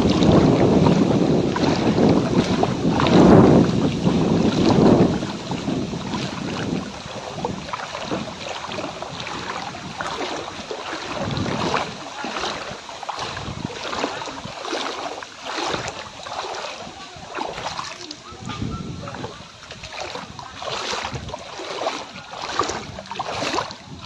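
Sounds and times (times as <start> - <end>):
wading through water sloshing: 0.0 - 24.0
wind buffeting microphone: 0.0 - 24.0.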